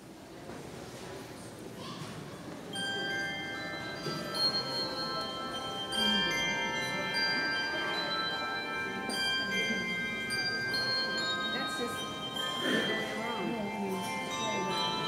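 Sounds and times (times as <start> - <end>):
handbell choir playing: 2.7 - 15.0.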